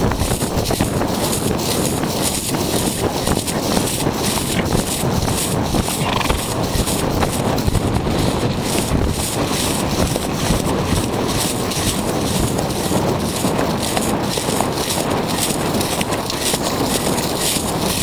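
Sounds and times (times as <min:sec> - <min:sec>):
horse hoofbeats cantering: 0:00.0 - 0:18.0.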